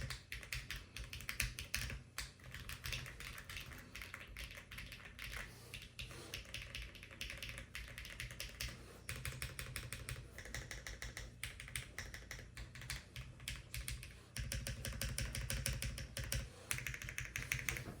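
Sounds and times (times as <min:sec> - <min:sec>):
fast typing on keyboard: 0:00.0 - 0:17.9.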